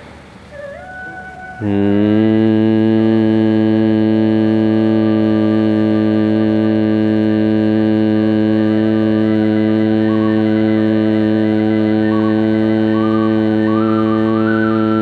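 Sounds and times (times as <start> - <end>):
man humming low pitch: 0.5 - 15.0.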